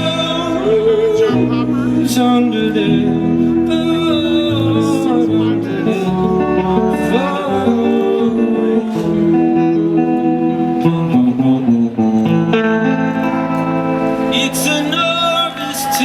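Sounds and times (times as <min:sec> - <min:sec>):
guitar: 0:00.0 - 0:16.0
live band playing: 0:00.0 - 0:16.0.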